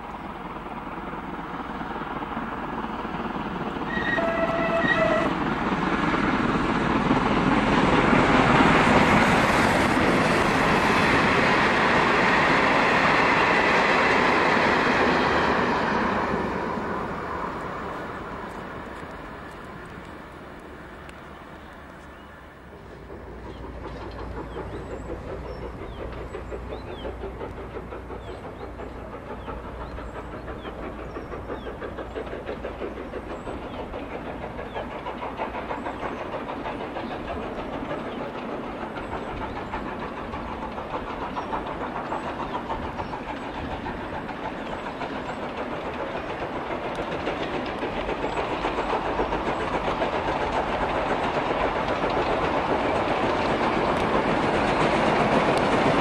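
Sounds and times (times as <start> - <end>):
steam locomotive exhaust beating: 0.0 - 56.0.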